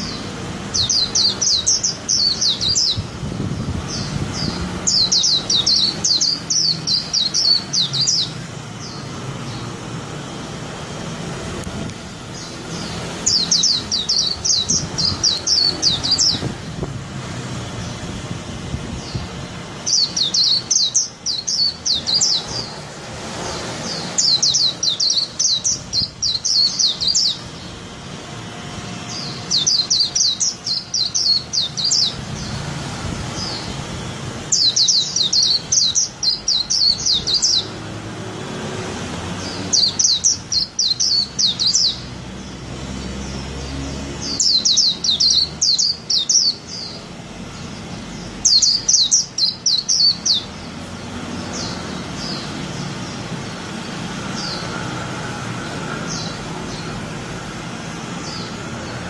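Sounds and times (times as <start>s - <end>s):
bird singing high warble: 0.0s - 59.0s.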